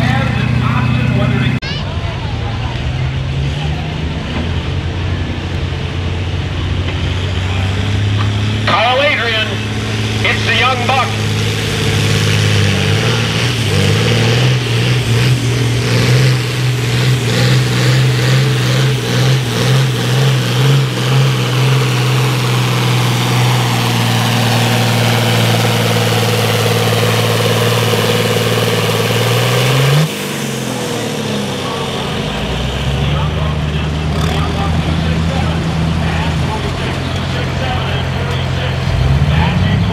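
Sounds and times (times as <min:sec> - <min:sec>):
tractor diesel engine running hard: 0:00.0 - 0:39.9.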